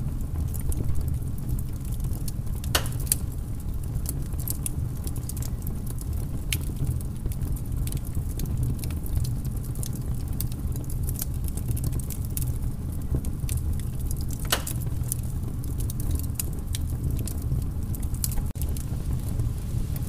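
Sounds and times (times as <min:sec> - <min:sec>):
bonfire crackling and popping: 0:00.0 - 0:20.0
low steady rumble: 0:00.0 - 0:20.0.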